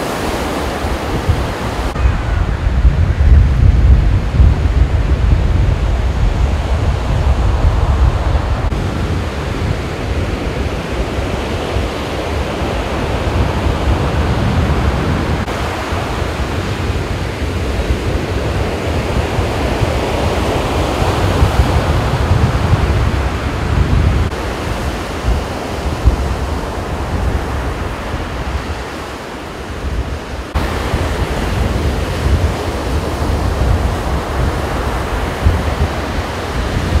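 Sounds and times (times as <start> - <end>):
surf on beach: 0.0 - 37.0
wind buffeting microphone: 0.0 - 37.0.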